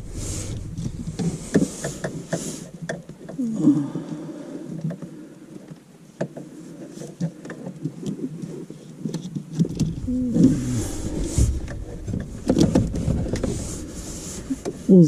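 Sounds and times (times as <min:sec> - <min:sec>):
wiring rustling and rubbing: 0:00.0 - 0:03.4, 0:04.8 - 0:15.0.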